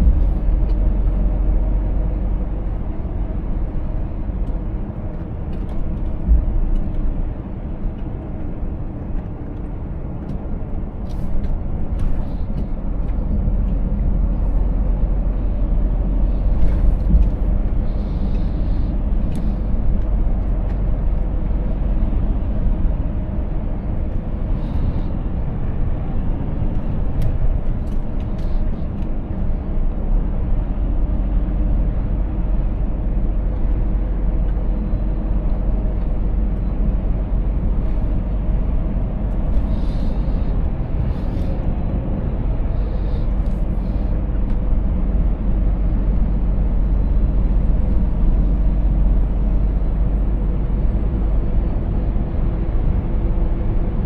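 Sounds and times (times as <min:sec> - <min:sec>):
road rumble: 0:00.0 - 0:54.0
truck diesel engine driving: 0:00.0 - 0:54.0.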